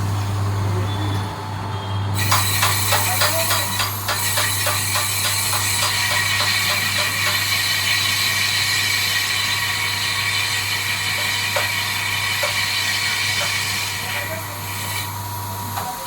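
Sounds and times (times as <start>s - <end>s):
lathe machine hum: 0.0s - 16.0s.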